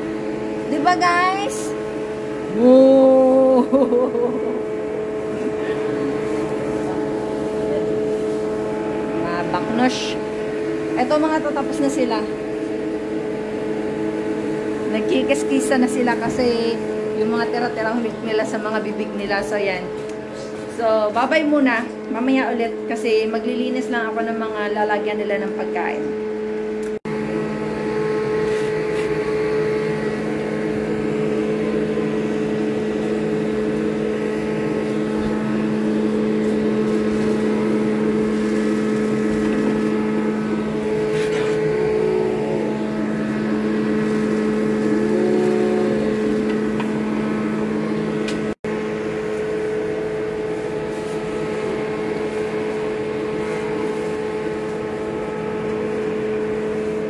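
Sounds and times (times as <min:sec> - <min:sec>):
loud machine hum: 0:00.0 - 0:57.0.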